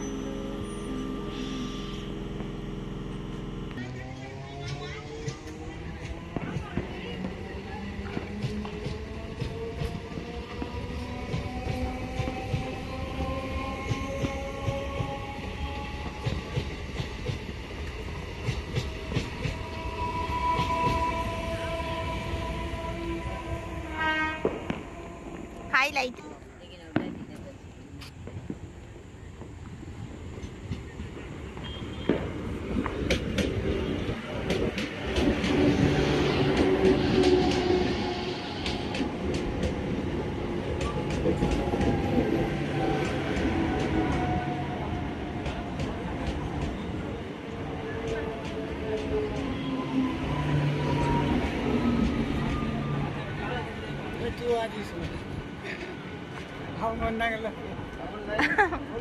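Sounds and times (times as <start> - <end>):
train carriages rumbling: 0.0 - 28.5, 29.5 - 59.0.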